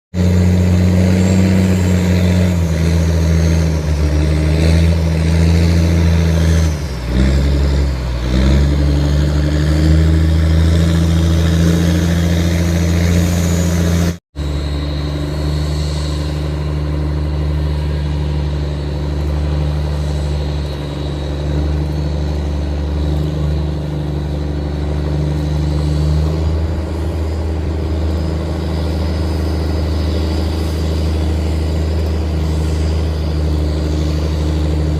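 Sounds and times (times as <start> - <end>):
tugboat engine running hard: 0.1 - 34.9.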